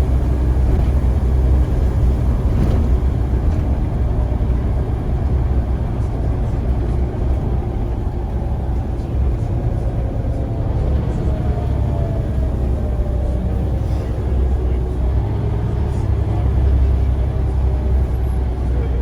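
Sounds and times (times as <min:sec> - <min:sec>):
bus engine rumble: 0:00.0 - 0:19.0
road noise: 0:00.0 - 0:19.0.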